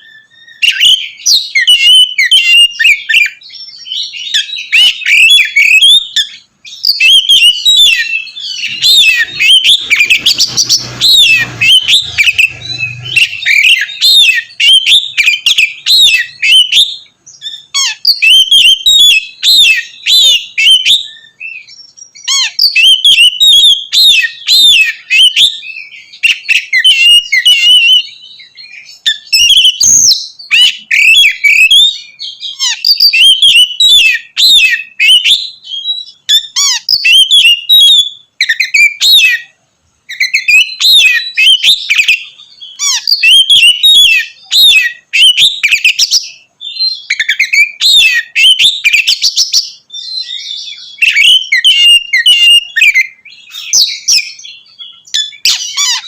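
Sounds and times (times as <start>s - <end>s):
bird singing loudly: 0.0s - 56.0s.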